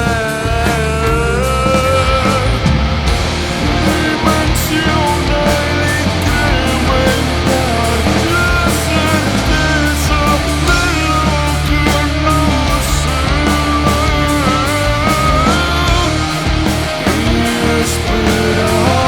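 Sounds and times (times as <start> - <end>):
melodic lead guitar line: 0.0 - 19.0
rock band playing: 0.0 - 19.0.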